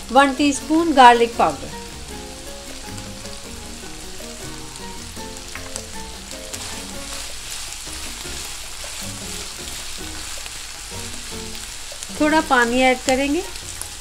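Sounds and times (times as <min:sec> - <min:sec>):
chicken sizzling in a frying pan: 0:00.0 - 0:14.0
soft background music: 0:00.0 - 0:14.0
spatula stirring in a pan: 0:01.8 - 0:14.0.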